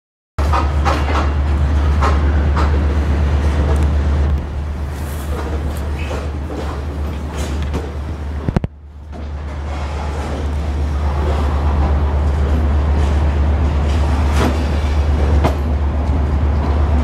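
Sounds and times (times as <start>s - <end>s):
train rolling on track: 0.4s - 17.0s.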